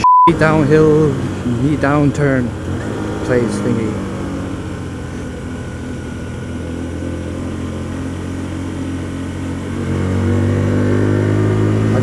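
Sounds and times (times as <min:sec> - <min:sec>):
motorcycle engine running: 0:00.3 - 0:12.0.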